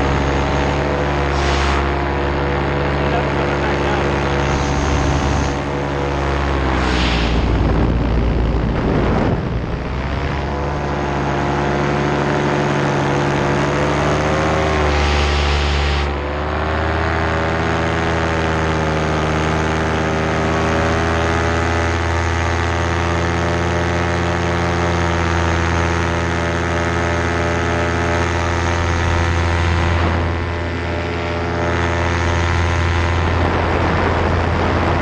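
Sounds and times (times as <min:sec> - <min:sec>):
paramotor engine and propeller: 0:00.0 - 0:35.0.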